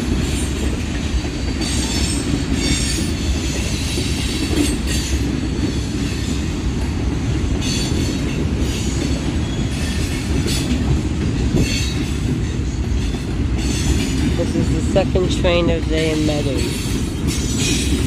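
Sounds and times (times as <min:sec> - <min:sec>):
freight train cars rumbling past: 0:00.0 - 0:18.0
wheels clickety-clack: 0:00.0 - 0:18.0.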